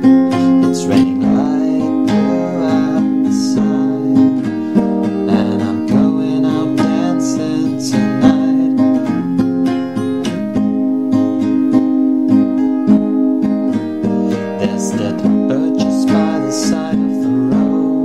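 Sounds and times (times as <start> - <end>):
song with strummed acoustic guitar: 0.0 - 18.0.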